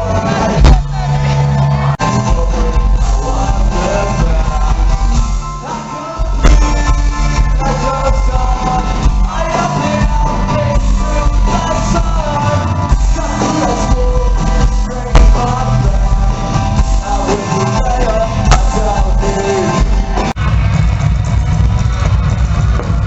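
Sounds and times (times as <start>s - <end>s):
song with vocals and beat: 0.0s - 23.0s.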